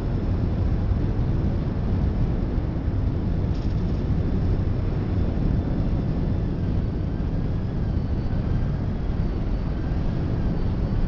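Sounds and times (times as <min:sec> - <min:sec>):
freight train rumble: 0:00.0 - 0:11.0.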